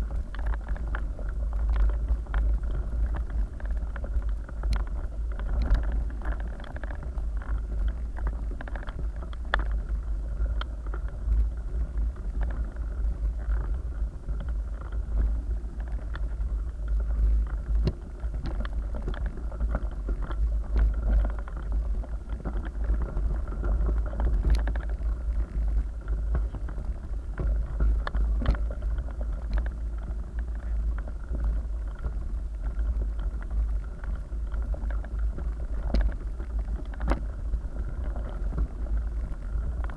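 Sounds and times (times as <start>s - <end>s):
wind on microphone rumble: 0.0s - 39.9s.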